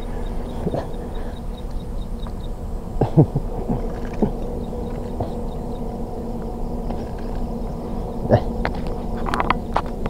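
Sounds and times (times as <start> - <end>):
faint rapid chirping: 0.0 - 10.0
insects droning: 0.0 - 10.0.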